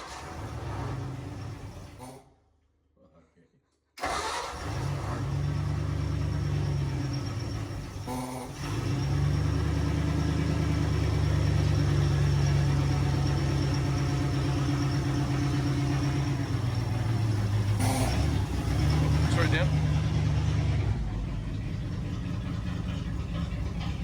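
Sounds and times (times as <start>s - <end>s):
car engine idling: 0.0s - 2.0s, 4.0s - 24.0s.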